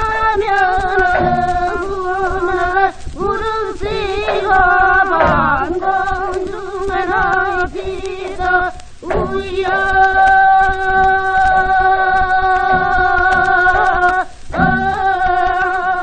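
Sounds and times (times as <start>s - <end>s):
folk singing on old record: 0.0s - 16.0s.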